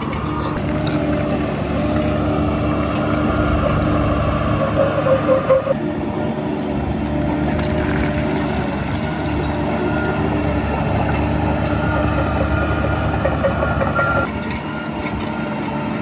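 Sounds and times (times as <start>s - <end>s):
diesel machinery running: 0.0s - 16.0s.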